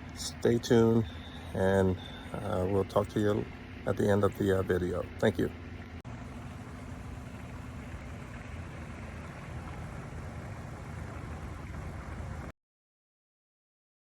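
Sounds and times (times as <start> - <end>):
low mechanical hum: 0.0 - 12.5.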